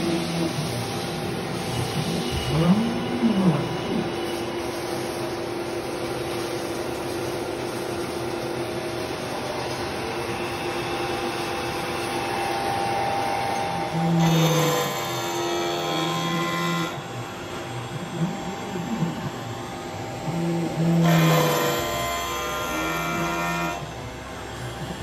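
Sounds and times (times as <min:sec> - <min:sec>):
constant hum: 0:00.0 - 0:25.0
machinery whirring: 0:00.0 - 0:25.0.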